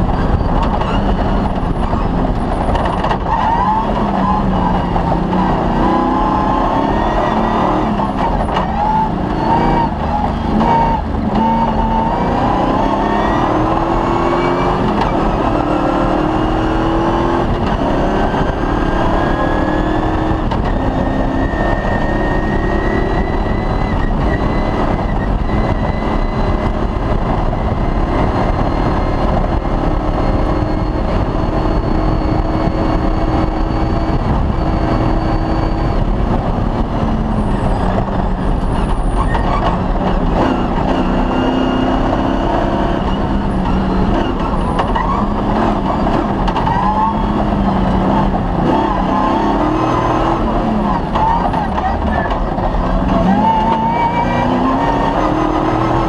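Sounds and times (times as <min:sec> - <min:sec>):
rally car engine revving: 0:00.0 - 0:56.0
road noise: 0:00.0 - 0:56.0.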